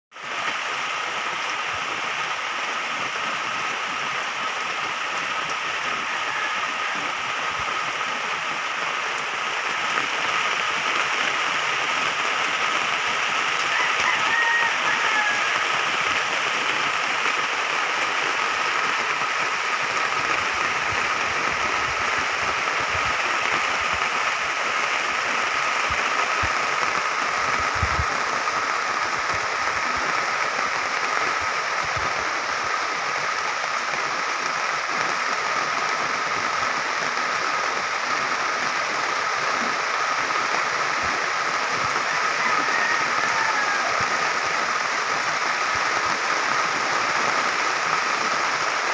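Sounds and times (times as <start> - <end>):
rain on a plastic tarp: 0.1 - 48.9.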